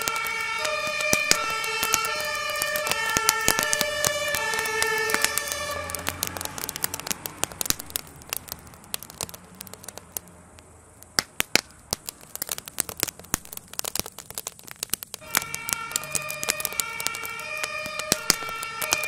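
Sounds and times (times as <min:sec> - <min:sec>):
burning wood crackling and popping: 0:00.0 - 0:19.0.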